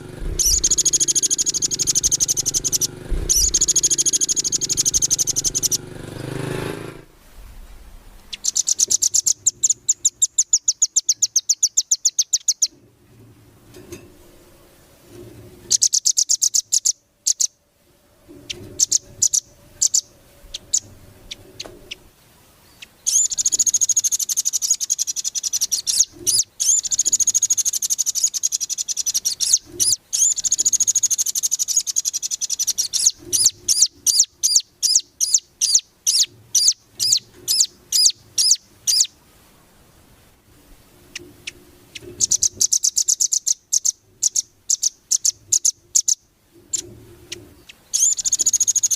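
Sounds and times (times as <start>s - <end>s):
songbird trilling: 0.0s - 5.8s, 8.3s - 12.8s, 15.7s - 17.6s, 18.5s - 22.0s, 22.6s - 39.2s, 41.1s - 48.9s.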